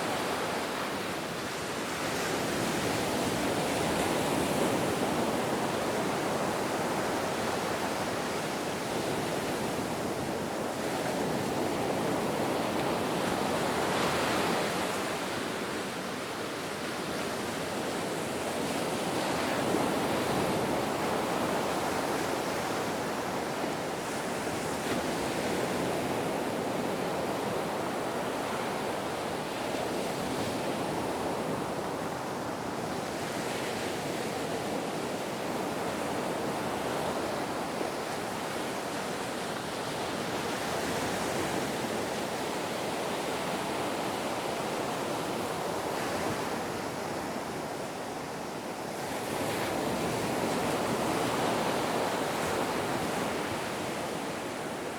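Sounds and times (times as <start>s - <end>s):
wind: 0.0s - 54.9s.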